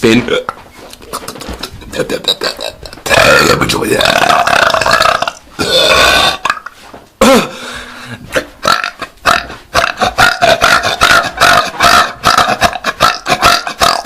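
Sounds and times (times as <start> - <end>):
man belching loudly: 1.9 - 7.5, 8.3 - 14.0.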